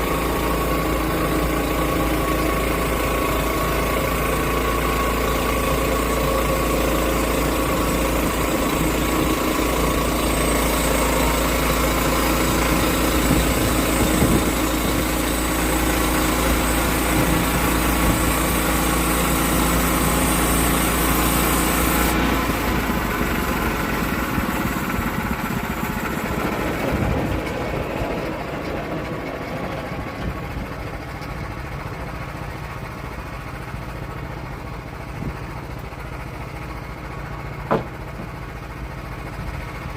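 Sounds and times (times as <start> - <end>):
bandsaw mill engine cutting log: 0.0 - 39.9.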